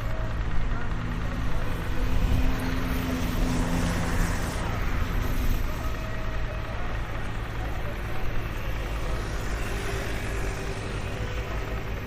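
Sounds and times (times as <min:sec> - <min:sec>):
passing traffic hum: 0:00.0 - 0:12.0
vehicle engine running: 0:00.0 - 0:12.0.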